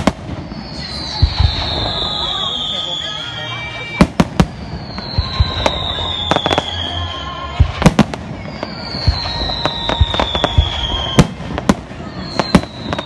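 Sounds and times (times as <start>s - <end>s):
fireworks bangs and crackles: 0.0s - 13.0s
long falling whistle: 0.0s - 13.0s.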